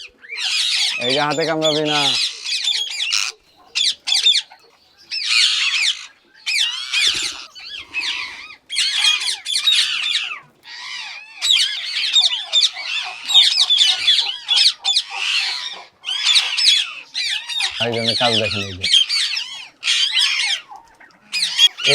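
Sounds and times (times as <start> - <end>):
parakeets squawking: 0.2 - 20.7, 21.3 - 21.9.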